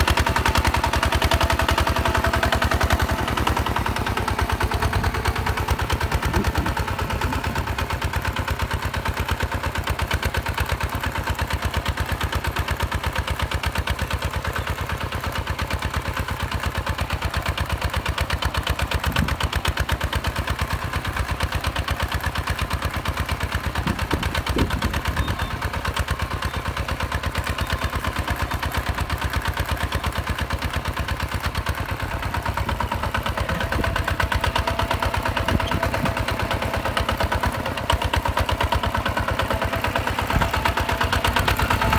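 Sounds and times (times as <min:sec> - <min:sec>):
diesel tractor engine idling: 0:00.0 - 0:41.9.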